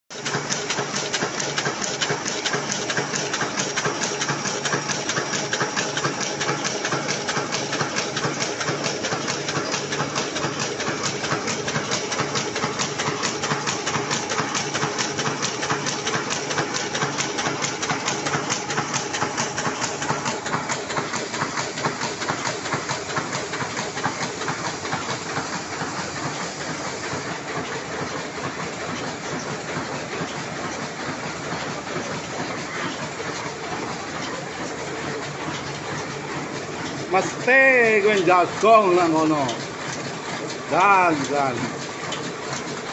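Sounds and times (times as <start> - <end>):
printing press clatter: 0.1 - 42.9.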